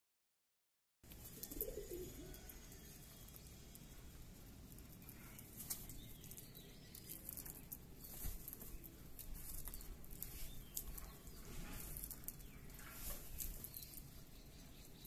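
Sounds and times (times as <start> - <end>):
pigeons pecking on concrete: 1.1 - 15.0.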